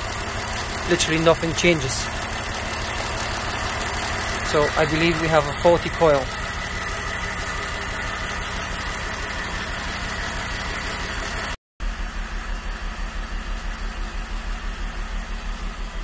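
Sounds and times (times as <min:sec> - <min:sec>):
car engine idling rough: 0:00.0 - 0:16.0.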